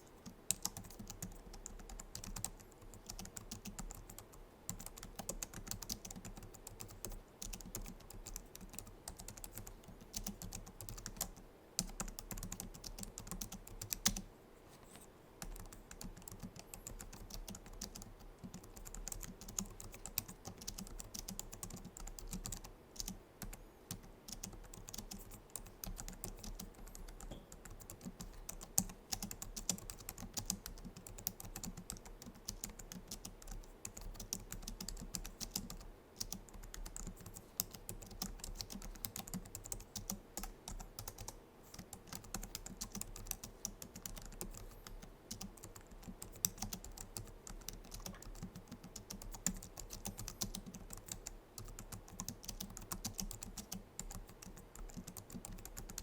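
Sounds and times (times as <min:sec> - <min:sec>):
keyboard typing clicks: 0:00.2 - 0:14.2, 0:15.4 - 0:56.0.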